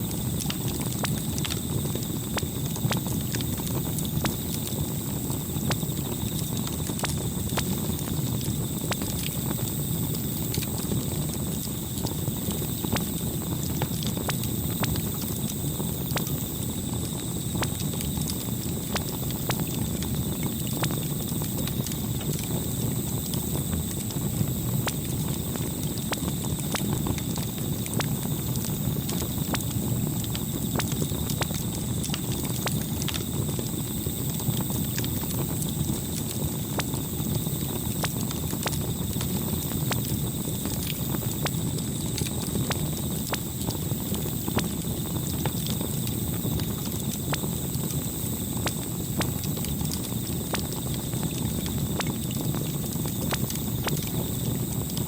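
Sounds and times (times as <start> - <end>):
campfire crackling and popping: 0.0 - 55.0
low rumble of flames: 0.0 - 55.0.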